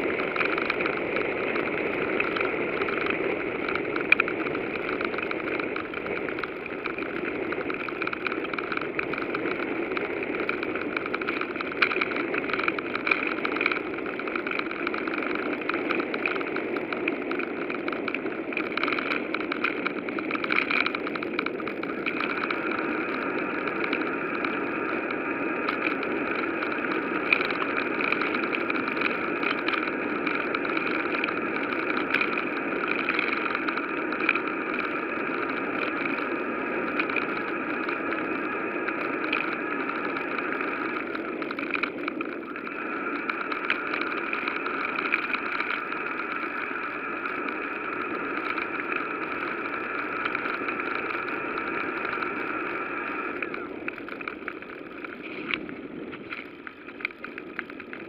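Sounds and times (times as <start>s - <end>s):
bicycle rolling noise: 0.0s - 58.0s
small clicks and rattles: 0.0s - 58.0s.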